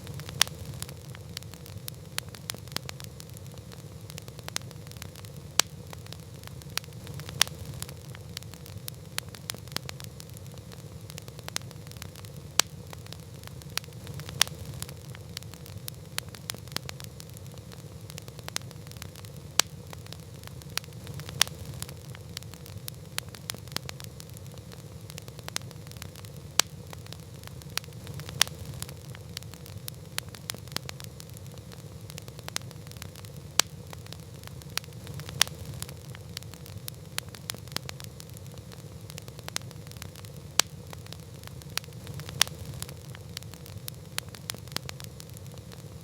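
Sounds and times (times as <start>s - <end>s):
campfire burning: 0.0s - 46.0s
wood crackles and pops: 0.0s - 46.0s.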